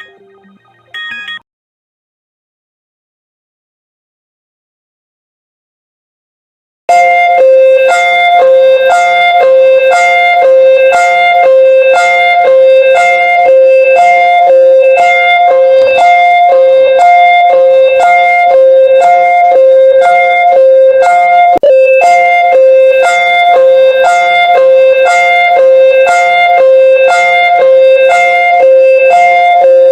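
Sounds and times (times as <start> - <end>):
electronic emergency alert tone: 0.0 - 1.4, 6.9 - 29.9.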